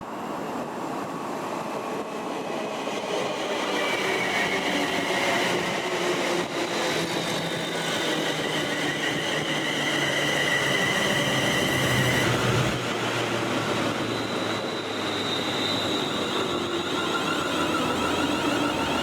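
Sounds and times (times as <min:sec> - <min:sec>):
trains passing on rails: 0:00.0 - 0:19.0.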